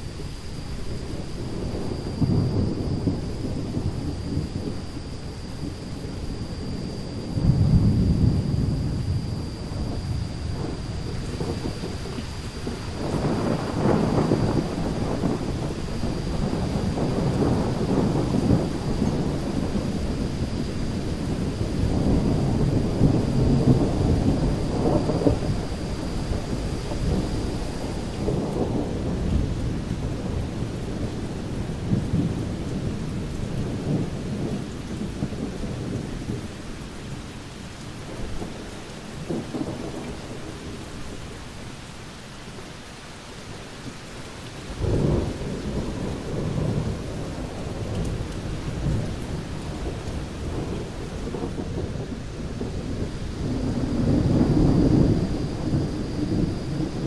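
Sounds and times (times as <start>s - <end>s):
thunder rumbling: 0.0s - 41.8s, 44.6s - 57.0s
steady rain: 0.0s - 57.0s.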